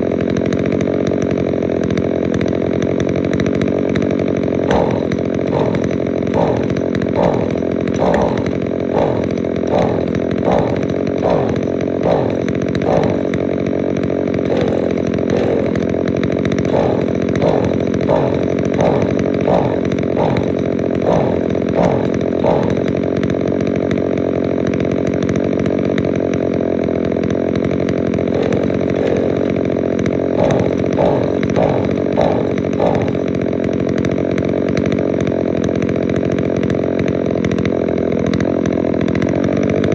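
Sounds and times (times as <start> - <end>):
string trimmer engine running: 0.0 - 39.9.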